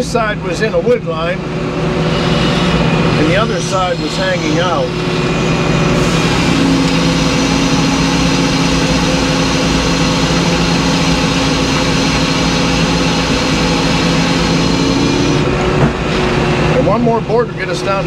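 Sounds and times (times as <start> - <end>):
sawmill power unit running: 0.0 - 18.0.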